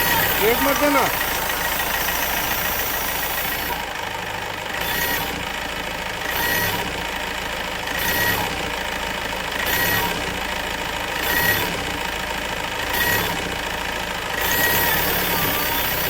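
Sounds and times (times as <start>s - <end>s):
diesel engine hunting idle: 0.0s - 16.0s.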